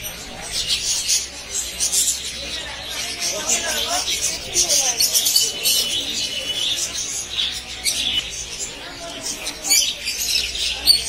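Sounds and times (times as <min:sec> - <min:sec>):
small birds chirping and squawking: 0:00.0 - 0:11.0.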